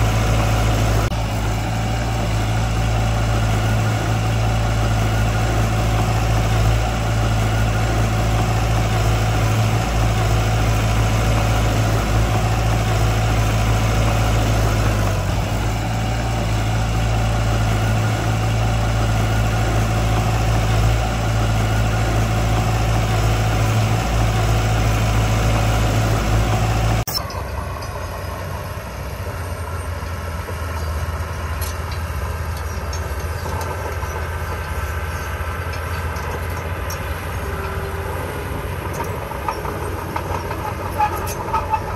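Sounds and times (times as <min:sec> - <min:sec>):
heavy machine engine humming: 0:00.0 - 0:41.9
quieter engine running: 0:00.0 - 0:41.9.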